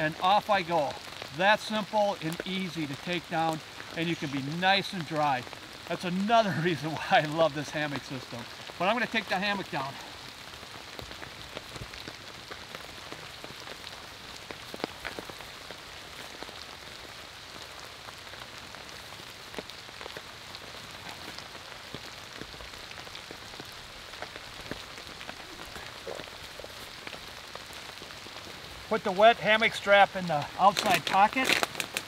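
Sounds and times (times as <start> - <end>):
rain pattering on a tarp: 0.0 - 32.0.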